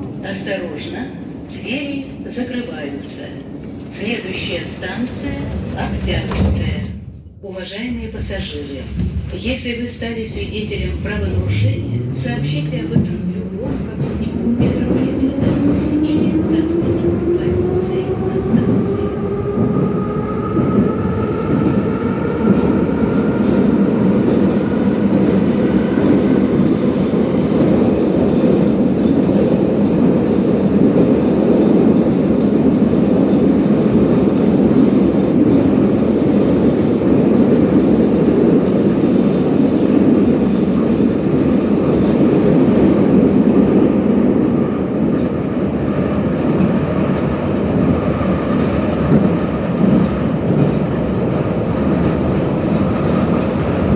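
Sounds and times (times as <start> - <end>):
train wheels rumbling: 8.0 - 53.9.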